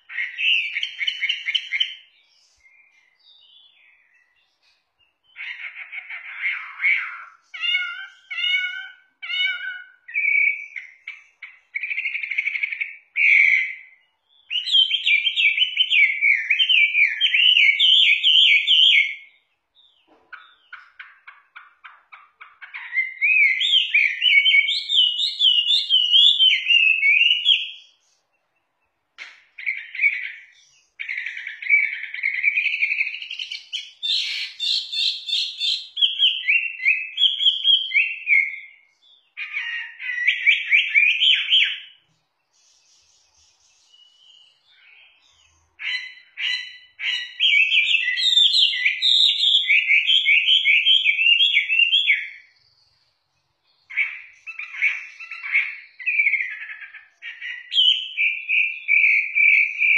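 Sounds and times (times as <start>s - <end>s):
bird singing warbling phrases: 0.0s - 59.9s.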